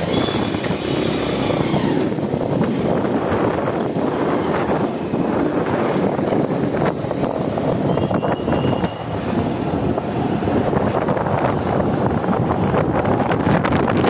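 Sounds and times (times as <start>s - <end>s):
motorcycle engine: 0.0s - 14.0s
road noise: 0.0s - 14.0s
wind rush over microphone: 0.0s - 14.0s.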